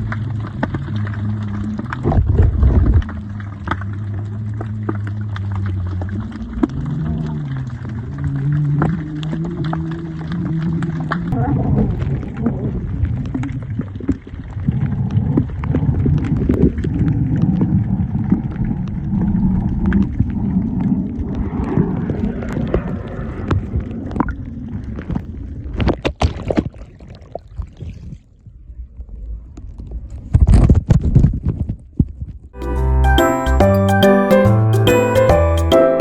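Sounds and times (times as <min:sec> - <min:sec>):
water sloshing and gurgling: 0:00.0 - 0:29.1.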